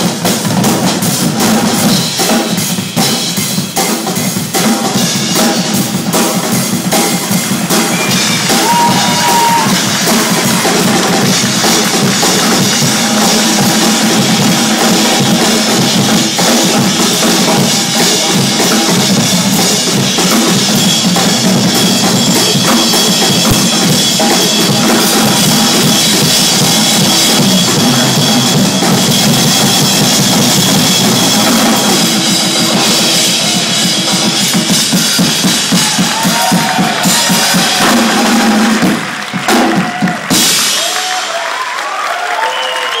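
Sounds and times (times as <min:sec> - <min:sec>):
group drumming: 0:00.0 - 0:43.0.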